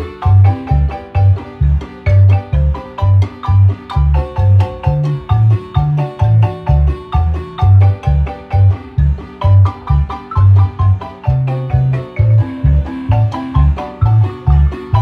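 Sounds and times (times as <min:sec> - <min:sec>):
low bass notes pulsing: 0:00.0 - 0:15.0
marimba music: 0:00.0 - 0:15.0.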